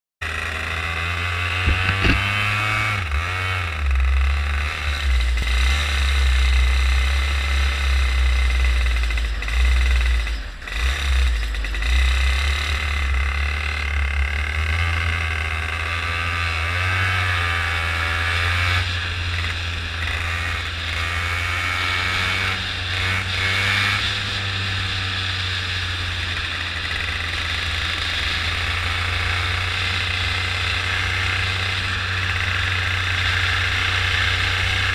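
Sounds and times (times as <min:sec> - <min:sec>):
go-kart engine revving: 0:00.2 - 0:34.9.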